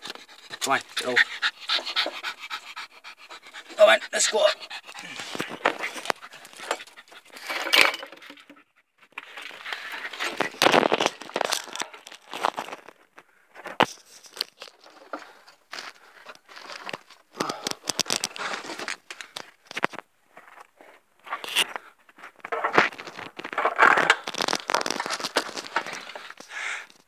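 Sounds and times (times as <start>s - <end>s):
crawling over loose stones: 0.0s - 8.5s, 9.1s - 27.0s.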